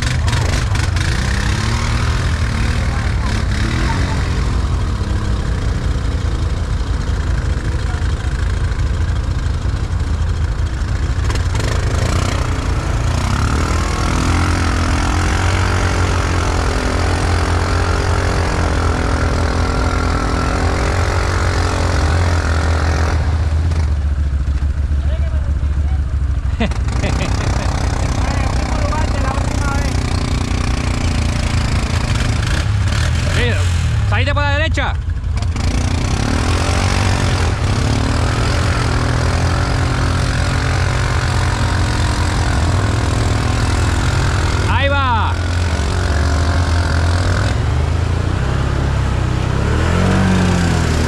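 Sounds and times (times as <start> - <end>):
atv engine droning: 0.0 - 51.0.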